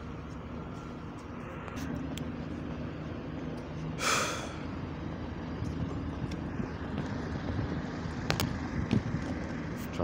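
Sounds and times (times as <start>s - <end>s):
bus engines idling: 0.0s - 10.0s.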